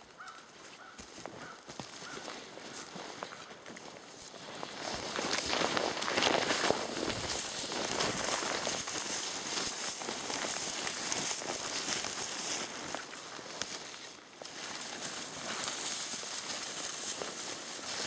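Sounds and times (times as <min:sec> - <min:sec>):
footsteps on frozen ground: 0:00.0 - 0:18.0.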